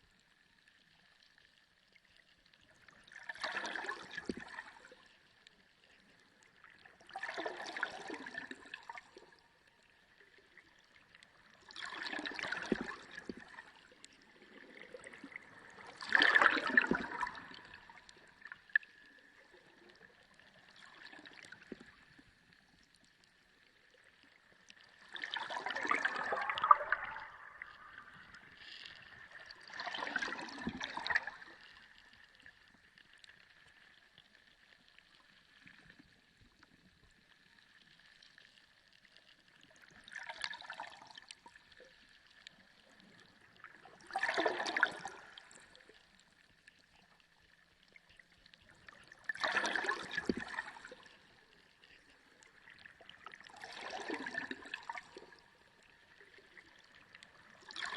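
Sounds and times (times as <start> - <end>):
rushing bubbling water: 2.8 - 5.1, 6.4 - 22.9, 23.6 - 33.8, 39.6 - 57.9.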